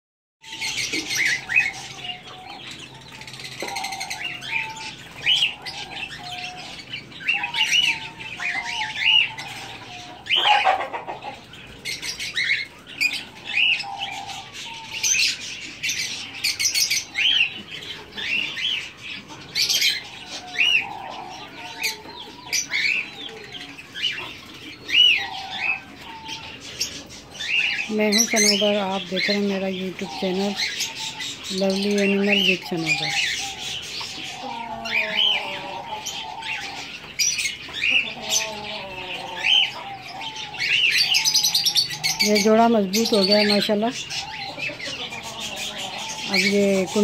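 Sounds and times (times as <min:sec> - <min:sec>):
budgerigars chirping: 0:00.4 - 0:47.0
low bird warbling: 0:00.4 - 0:47.0.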